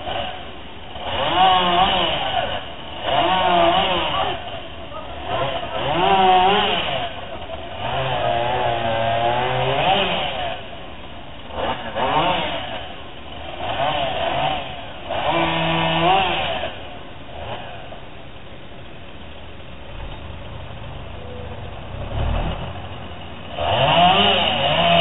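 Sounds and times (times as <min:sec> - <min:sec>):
engine revving: 0:00.0 - 0:10.8, 0:11.4 - 0:18.0, 0:19.8 - 0:25.0.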